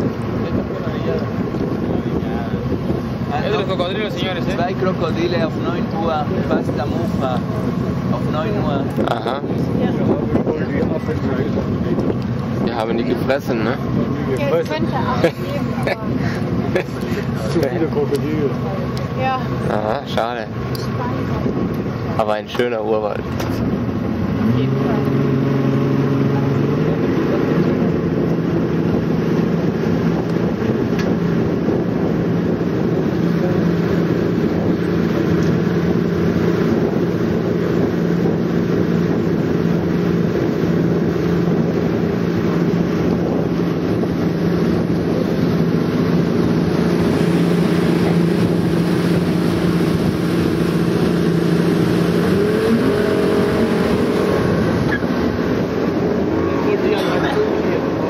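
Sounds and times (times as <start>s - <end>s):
motorboat engine droning: 0.0s - 58.0s.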